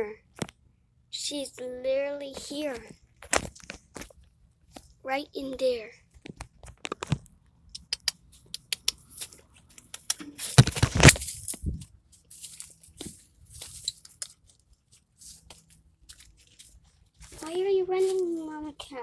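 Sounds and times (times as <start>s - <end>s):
crunching and rustling: 2.2s - 7.5s, 8.2s - 19.0s.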